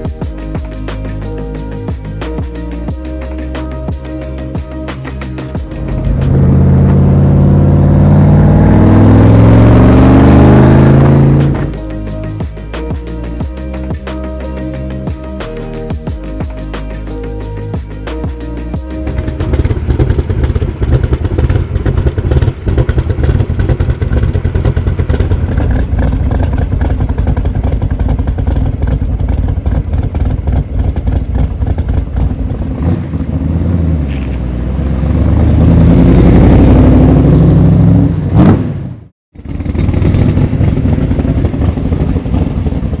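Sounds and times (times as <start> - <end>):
vee eight engine exhaust: 0.7 - 12.7, 18.8 - 43.0.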